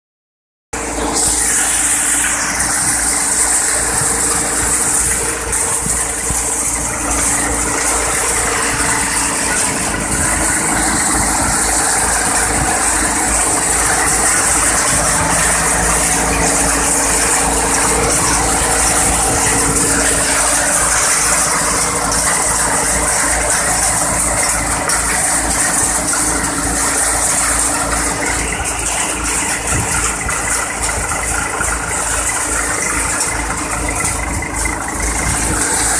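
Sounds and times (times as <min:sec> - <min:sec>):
thresher machine hum: 0:00.8 - 0:35.9.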